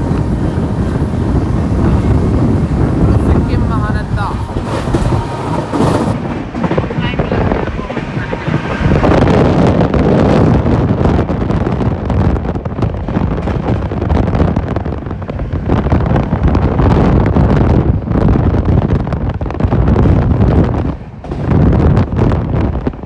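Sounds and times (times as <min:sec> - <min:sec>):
train running rumble: 0:00.0 - 0:23.0
wind buffeting microphone: 0:00.0 - 0:23.0.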